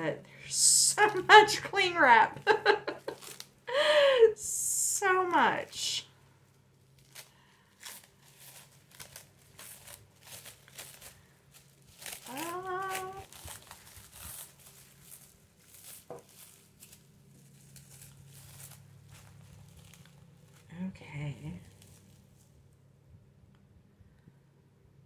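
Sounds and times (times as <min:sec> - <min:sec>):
cling wrap crinkling: 0:00.5 - 0:23.0.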